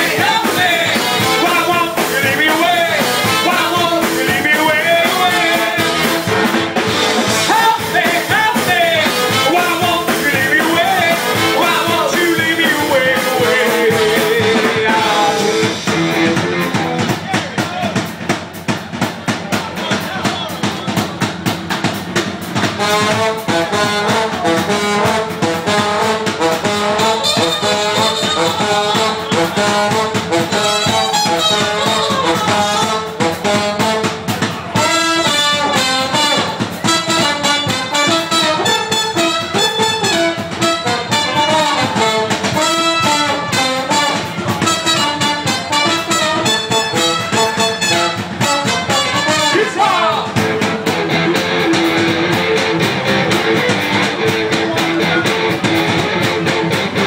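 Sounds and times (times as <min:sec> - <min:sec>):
trombone and trumpet playing: 0:00.0 - 0:17.2, 0:22.4 - 0:57.0
drum kit beat: 0:00.0 - 0:57.0.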